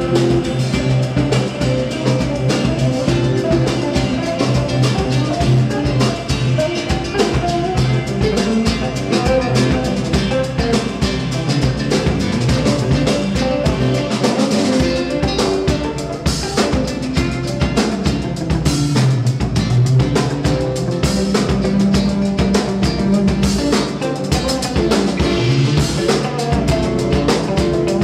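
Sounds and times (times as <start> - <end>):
drum kit playing: 0.0 - 28.0
electric bass guitar: 0.0 - 28.0.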